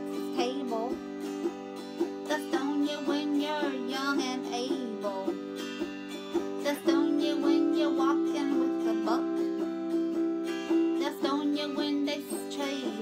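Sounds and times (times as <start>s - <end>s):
autoharp strummed: 0.0s - 13.0s
woman singing: 0.0s - 13.0s.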